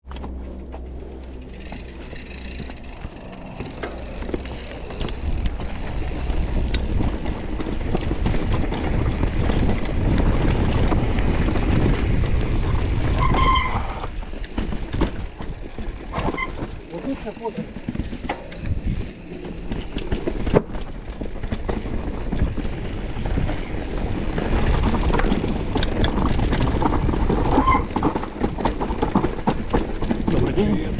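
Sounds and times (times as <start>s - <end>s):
bike tyre noise on rocky trail: 0.0s - 30.9s
bike rattling over stones: 0.1s - 30.9s
wind buffeting microphone: 1.6s - 30.9s.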